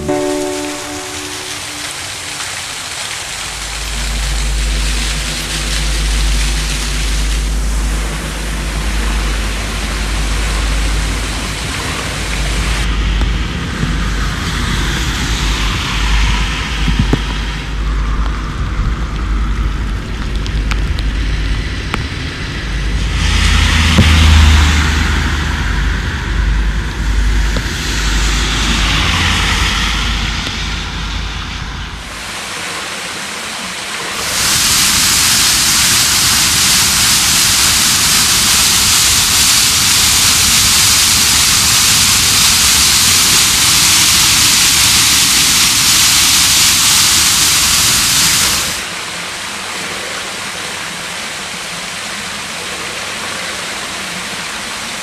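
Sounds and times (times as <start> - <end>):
low traffic rumble: 0.0 - 46.2
heavy rain on a road: 0.0 - 55.0
rushing stream: 0.0 - 55.0.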